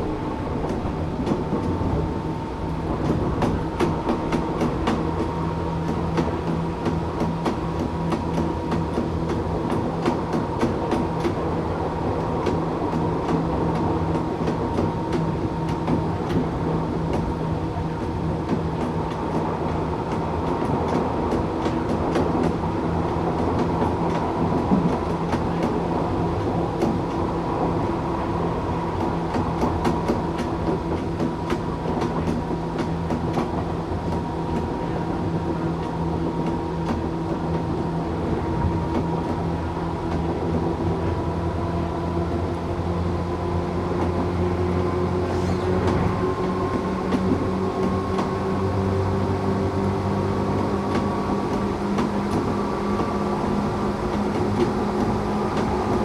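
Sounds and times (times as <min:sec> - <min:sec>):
electric train motor hum: 0:00.0 - 0:56.0
wheels clicking on rail: 0:00.0 - 0:56.0.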